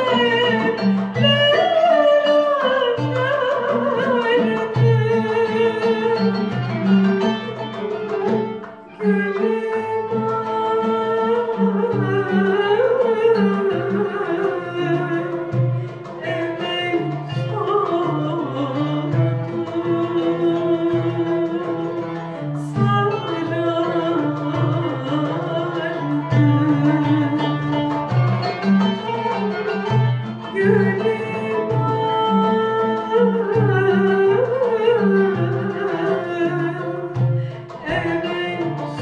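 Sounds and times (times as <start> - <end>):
woman singing: 0.0 - 28.0, 28.8 - 39.0
hand percussion: 0.0 - 39.0
oud: 0.0 - 39.0
violin: 0.0 - 39.0.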